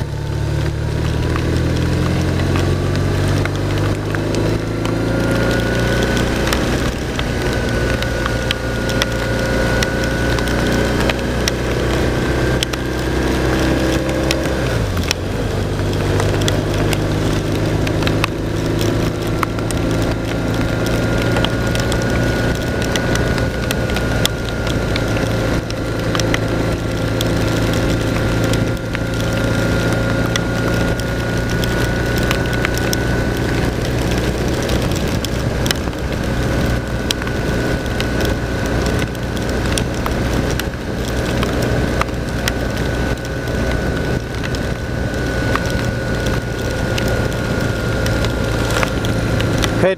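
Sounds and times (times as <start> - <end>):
motorcycle engine running: 0.0 - 49.9
rain crackling on bike: 0.0 - 49.9.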